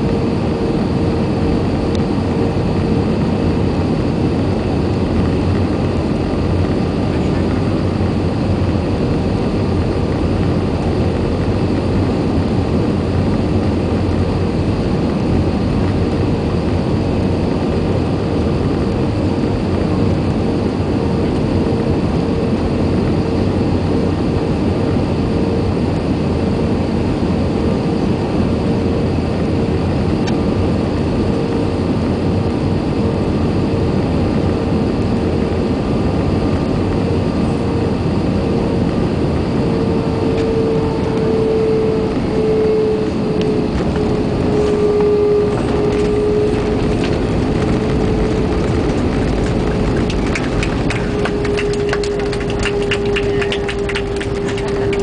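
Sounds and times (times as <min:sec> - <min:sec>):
airliner cabin roar: 0:00.0 - 0:55.0
mid-pitched hum: 0:00.0 - 0:55.0.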